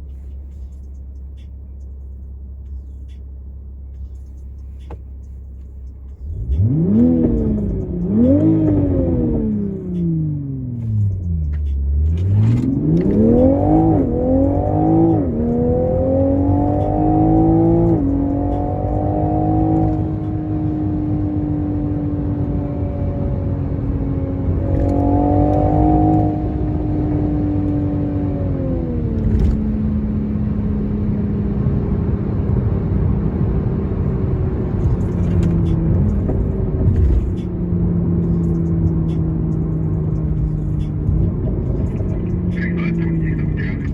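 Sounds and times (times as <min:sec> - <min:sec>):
car engine accelerating and shifting: 0:00.0 - 0:43.9.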